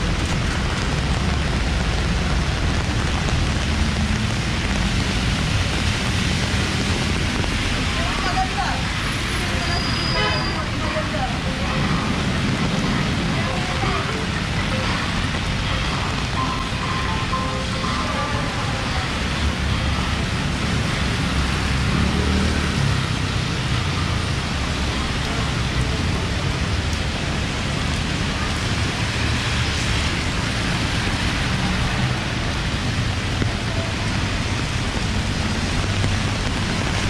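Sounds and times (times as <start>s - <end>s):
heavy rain hissing: 0.0s - 37.0s
road traffic rumble: 0.0s - 37.0s.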